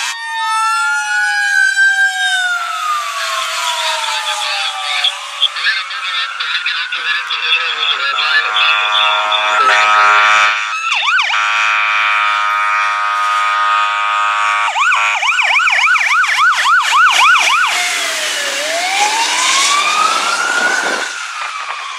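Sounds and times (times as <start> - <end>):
fire truck siren: 0.0 - 21.9.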